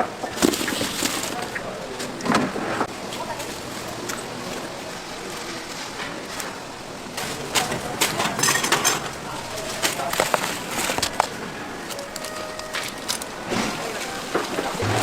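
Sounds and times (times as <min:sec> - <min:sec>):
background voices: 0:00.0 - 0:15.0.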